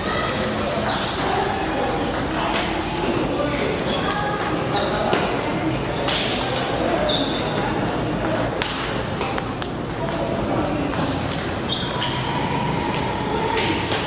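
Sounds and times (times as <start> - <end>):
murmur of voices: 0.0 - 14.0
shoes squeaking on floor: 0.0 - 14.0.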